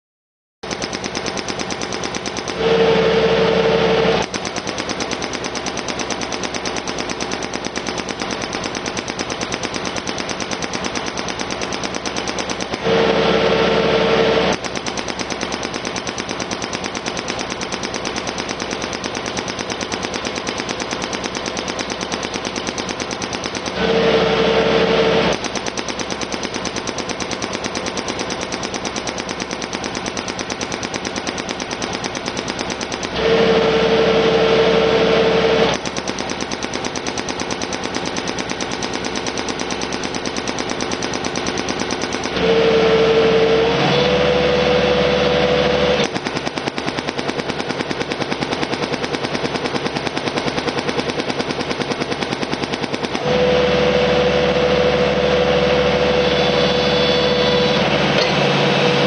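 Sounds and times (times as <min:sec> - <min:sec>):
hydraulic hammer pounding gravel: 0:00.6 - 0:59.0.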